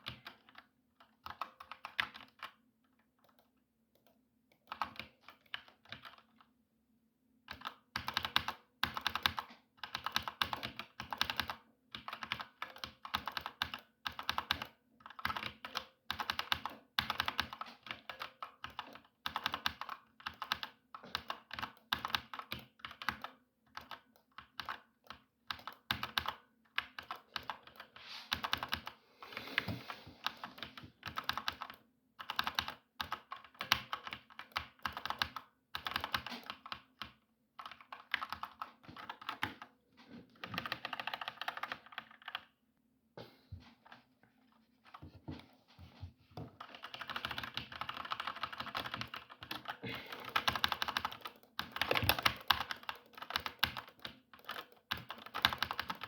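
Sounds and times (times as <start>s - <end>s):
keyboard typing: 0.0s - 6.5s, 7.5s - 39.7s, 40.4s - 42.6s, 46.5s - 56.0s.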